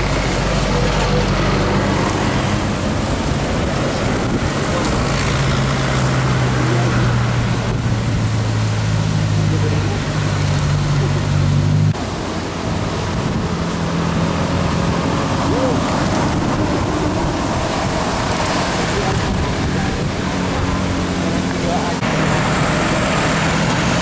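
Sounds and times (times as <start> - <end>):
low engine hum: 0.0 - 24.0
road traffic passing: 0.0 - 24.0
wind on microphone: 1.3 - 9.4, 10.0 - 22.0.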